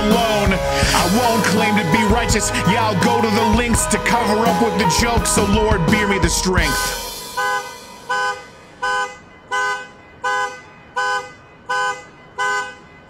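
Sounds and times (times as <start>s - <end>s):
car horn honking: 0.9s - 13.0s.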